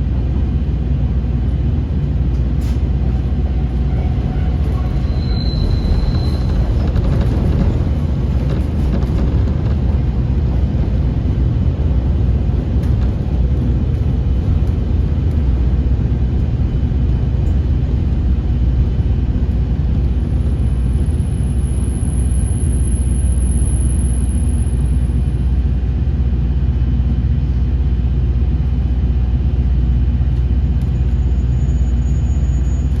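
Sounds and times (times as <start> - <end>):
diesel railcar engine rumble: 0.0 - 33.0
train wheels on rails: 0.1 - 33.0.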